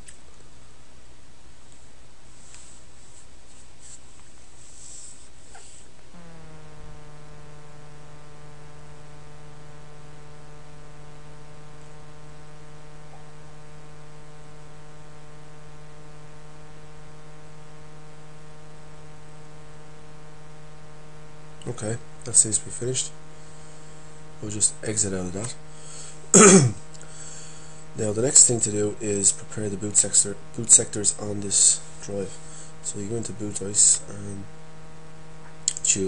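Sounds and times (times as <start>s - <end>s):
background hiss: 0.0s - 36.0s
steady hum with overtones: 0.0s - 36.0s.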